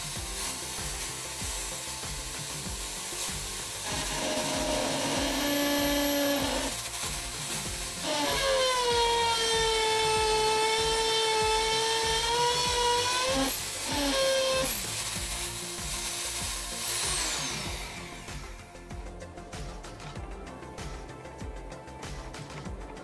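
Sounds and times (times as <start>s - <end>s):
electric drill motor whine: 0.0s - 18.8s.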